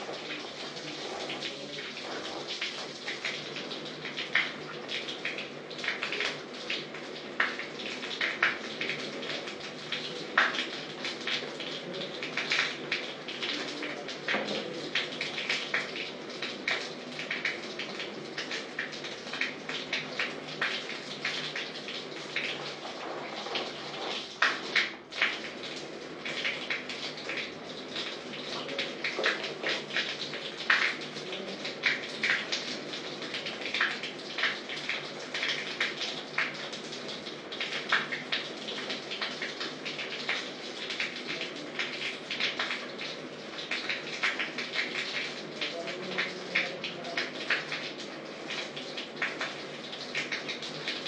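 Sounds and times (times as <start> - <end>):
shower water spattering: 0.0 - 51.0.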